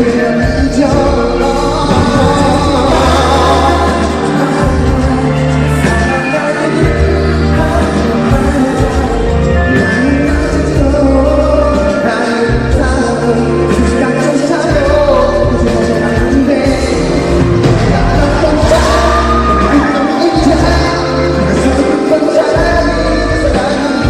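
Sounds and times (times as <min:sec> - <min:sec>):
full band playing pop song: 0:00.0 - 0:24.0
man singing lead vocal: 0:00.0 - 0:24.0.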